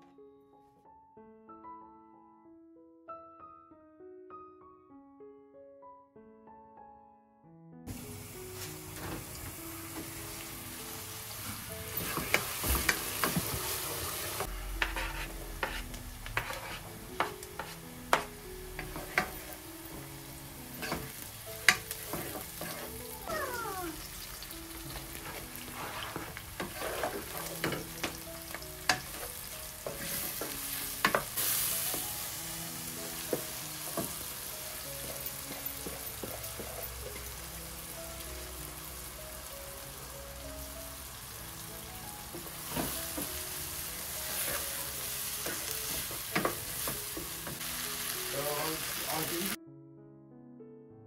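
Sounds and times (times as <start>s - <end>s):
soft background music: 0.0s - 51.0s
food sizzling in a pan: 7.9s - 49.6s.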